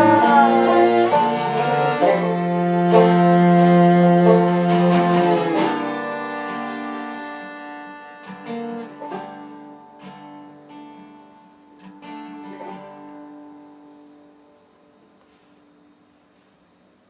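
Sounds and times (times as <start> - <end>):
acoustic guitar plucked notes: 0.0 - 14.7.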